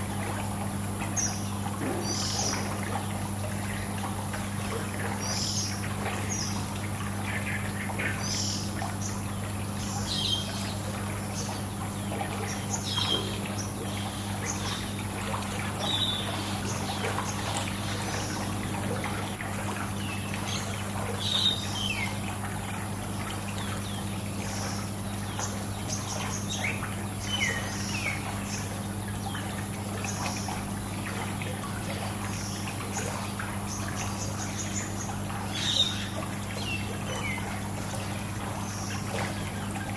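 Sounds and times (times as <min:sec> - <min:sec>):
constant low hum: 0:00.0 - 0:39.9
pool water trickling: 0:00.0 - 0:39.9
birds chirping: 0:01.1 - 0:04.0, 0:04.7 - 0:22.4, 0:23.2 - 0:39.9.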